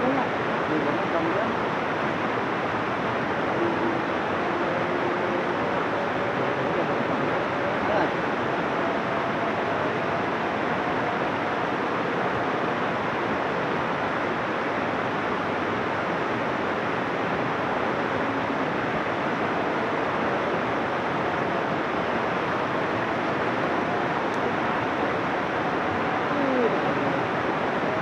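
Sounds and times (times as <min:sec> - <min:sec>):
river rushing over stones: 0:00.0 - 0:28.0.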